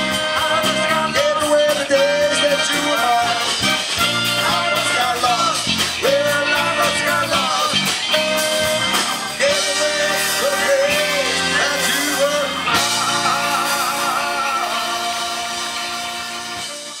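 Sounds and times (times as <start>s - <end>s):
person singing: 0.0s - 16.7s
electric guitar: 0.0s - 17.0s
live rock band playing: 0.0s - 17.0s
saxophone: 0.0s - 17.0s
trumpet: 0.0s - 17.0s.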